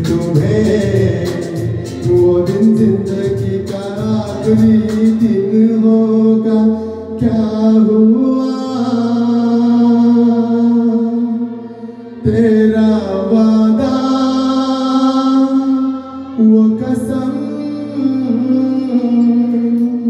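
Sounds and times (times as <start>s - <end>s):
backing music track: 0.0s - 20.0s
man singing into microphone: 0.0s - 20.0s.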